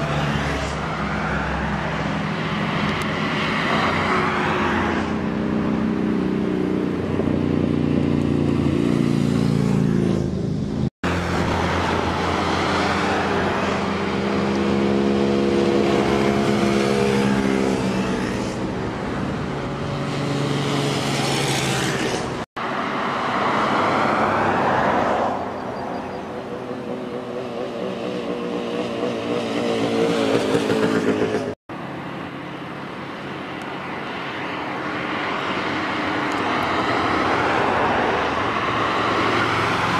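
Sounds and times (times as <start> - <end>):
motorcycles driving past: 0.0 - 39.9.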